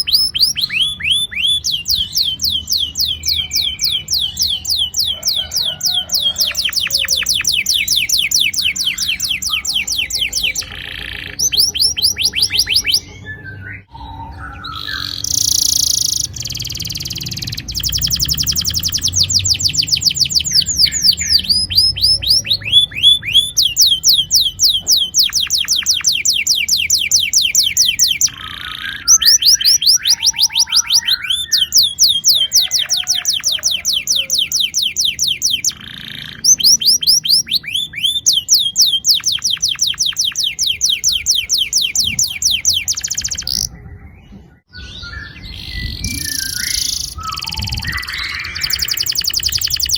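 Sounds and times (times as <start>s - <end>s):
canary singing rolling trills: 0.0s - 49.9s.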